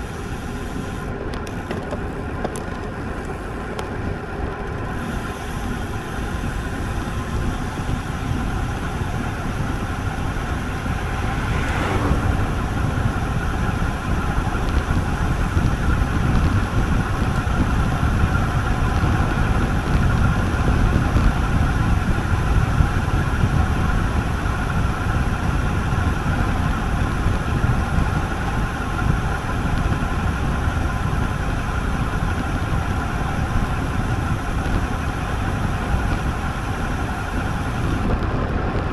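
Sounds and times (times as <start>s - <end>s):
bike road noise: 0.0s - 38.9s
wind on microphone: 5.0s - 38.9s.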